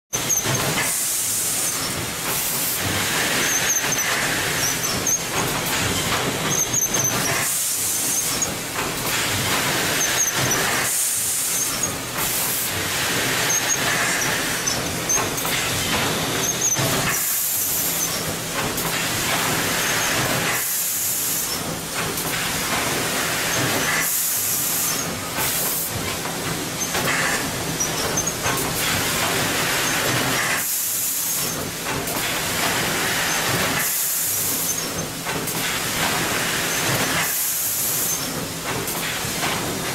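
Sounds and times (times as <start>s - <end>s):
packaging machine running: 0.2s - 39.9s.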